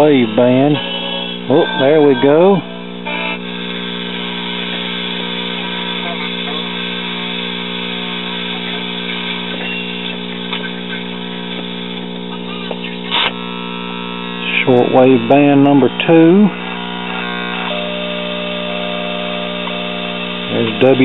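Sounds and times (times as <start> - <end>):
faint shortwave station: 0.0 - 21.0
radio speaker buzzing hum: 0.0 - 21.0.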